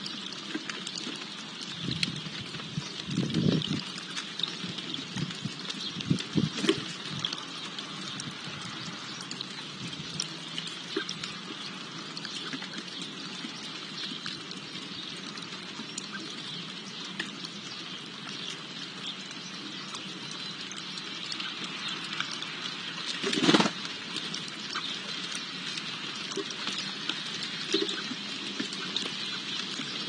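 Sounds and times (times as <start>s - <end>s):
birds pecking in seed tray: 0.0s - 30.0s.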